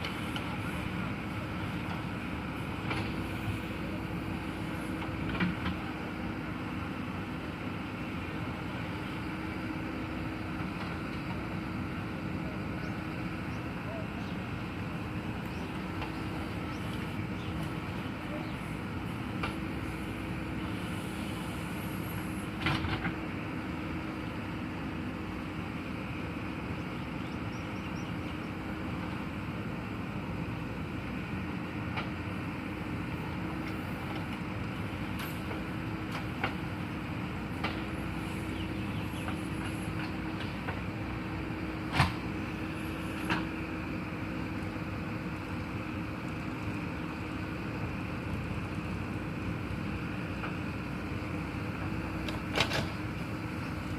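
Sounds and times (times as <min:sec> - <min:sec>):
heavy machine engine running: 0:00.0 - 0:53.9.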